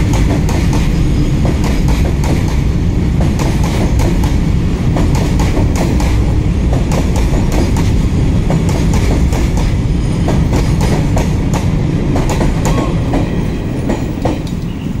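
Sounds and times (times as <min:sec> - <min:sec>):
freight train rumbling past: 0:00.0 - 0:15.0
wheels clacking over rail joints: 0:00.0 - 0:15.0.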